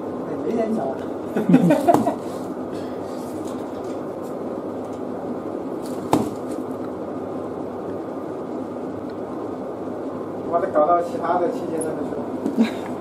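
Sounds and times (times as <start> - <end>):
hiss-like background hum: 0.0 - 13.0.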